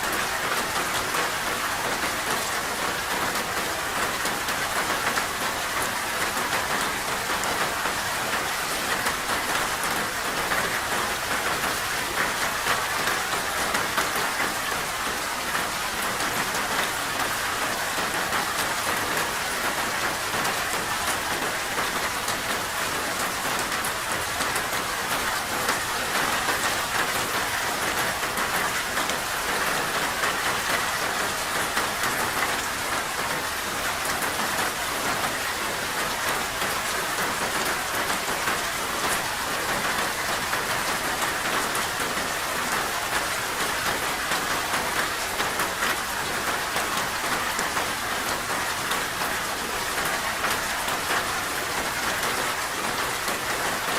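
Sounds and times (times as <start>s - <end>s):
steady rain patter: 0.0s - 53.9s.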